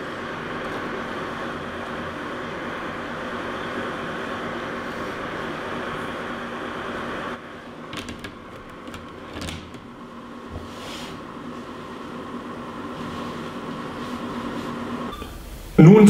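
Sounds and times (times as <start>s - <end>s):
dehydrator fan humming: 0.0s - 16.0s.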